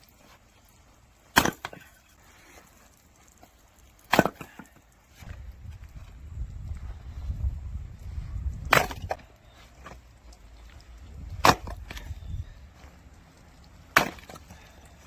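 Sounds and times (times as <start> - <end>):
firewood cracking as it is split: 0.0 - 6.0, 8.4 - 15.0.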